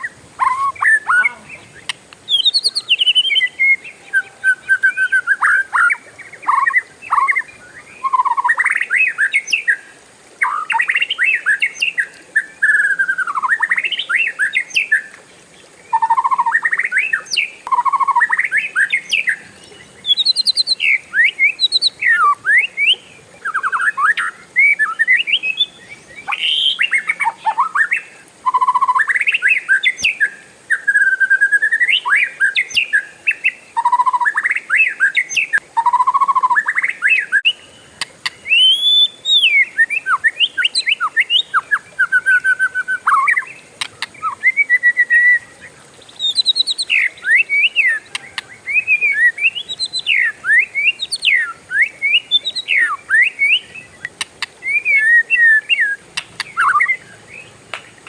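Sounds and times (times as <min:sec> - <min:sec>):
bird singing whistled phrases: 0:00.0 - 0:09.8, 0:10.4 - 0:15.1, 0:15.9 - 0:57.5.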